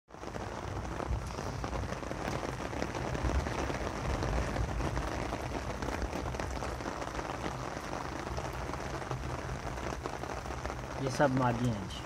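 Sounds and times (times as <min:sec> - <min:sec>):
raindrop ticks: 0:00.1 - 0:12.0
steady rain hiss: 0:00.1 - 0:12.0.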